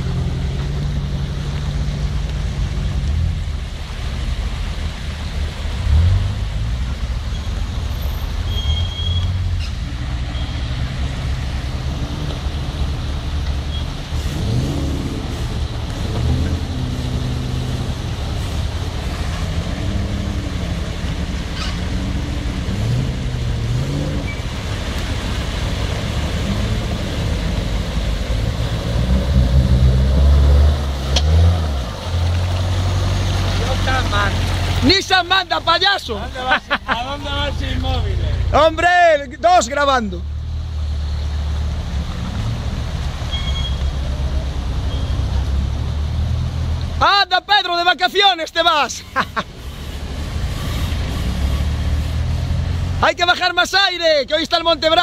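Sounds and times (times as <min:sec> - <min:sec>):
off-road engines revving: 0:00.0 - 0:47.1, 0:47.7 - 0:55.0
water splashing: 0:00.0 - 0:55.0.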